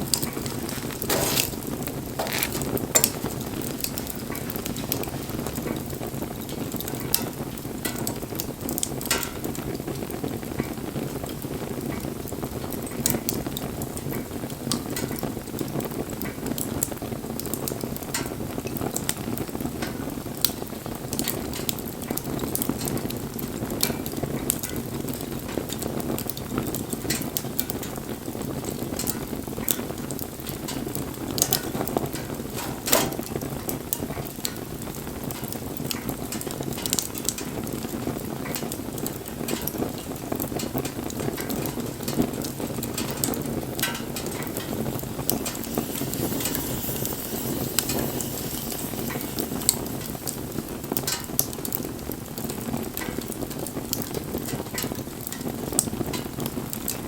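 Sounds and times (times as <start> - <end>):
bonfire crackling and popping: 0.0 - 57.0.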